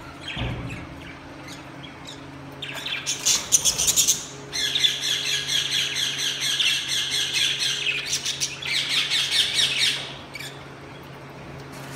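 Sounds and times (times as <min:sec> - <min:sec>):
budgerigars chirping and squawking: 0:00.2 - 0:10.6.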